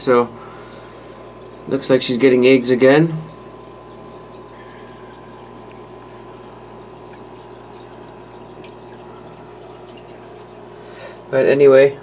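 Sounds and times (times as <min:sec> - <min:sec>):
aquarium filter water trickling: 0:00.0 - 0:12.0.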